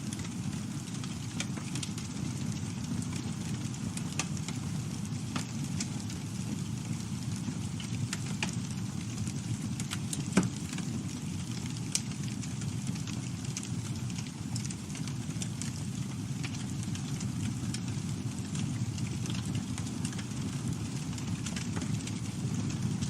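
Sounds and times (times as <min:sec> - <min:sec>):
campfire low rumble: 0:00.0 - 0:23.0
fire crackles and pops: 0:00.0 - 0:23.0.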